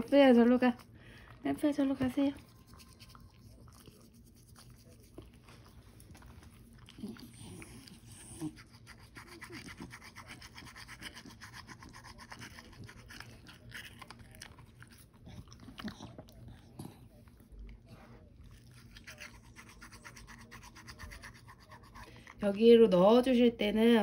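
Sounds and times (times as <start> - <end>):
toothbrush scrubbing teeth: 1.7 - 16.4, 17.0 - 22.8.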